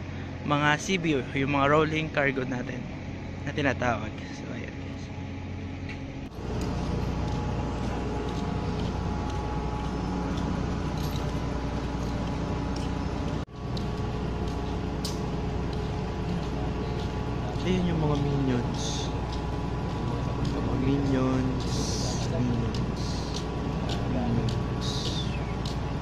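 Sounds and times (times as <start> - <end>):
heavy machinery drone: 0.0 - 26.0.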